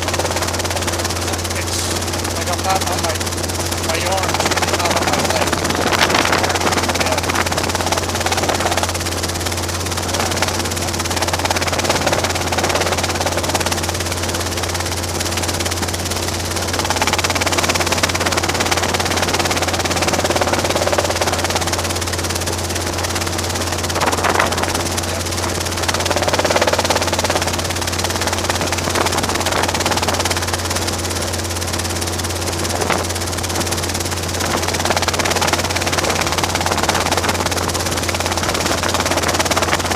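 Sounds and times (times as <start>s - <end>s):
helicopter engine and rotors drone: 0.0s - 39.9s.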